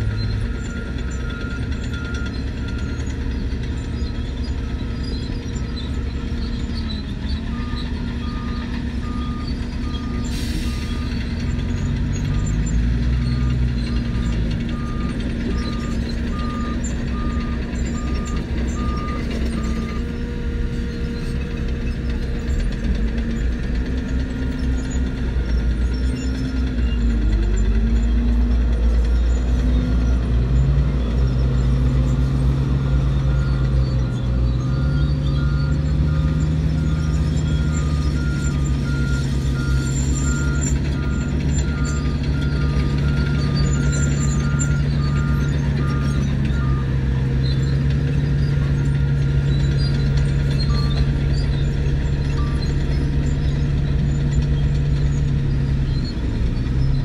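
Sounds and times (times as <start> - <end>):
reversing alarm beeping: 0.0 - 3.2, 5.6 - 21.1, 22.0 - 55.3
heavy diesel engines revving: 0.0 - 57.0.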